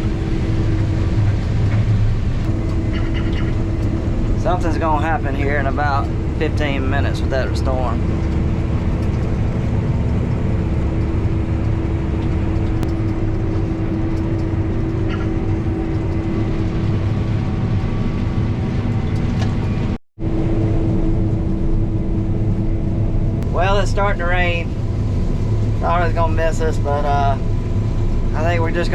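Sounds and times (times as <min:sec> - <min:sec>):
combine harvester running: 0:00.0 - 0:28.9.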